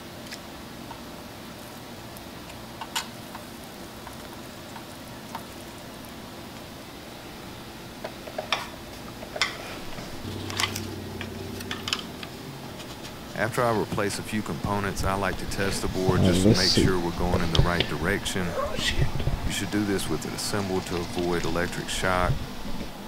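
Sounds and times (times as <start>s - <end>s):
low steady hum: 0.0s - 23.0s
steady background hiss: 0.0s - 23.0s.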